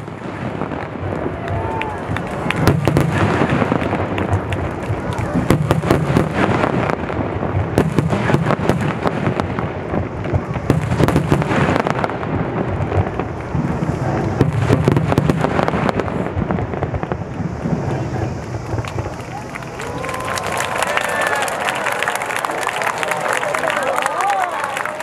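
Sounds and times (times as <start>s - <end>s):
fireworks booms and cracks: 0.0s - 25.0s.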